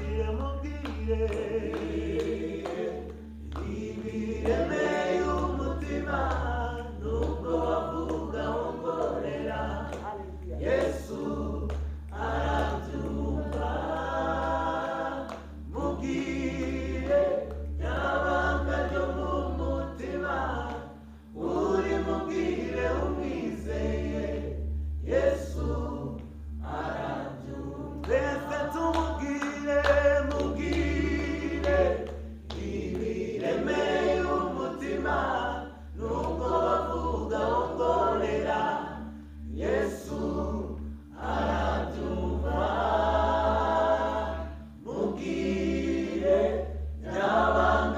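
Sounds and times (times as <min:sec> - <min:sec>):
group singing a worship song: 0:00.0 - 0:47.9.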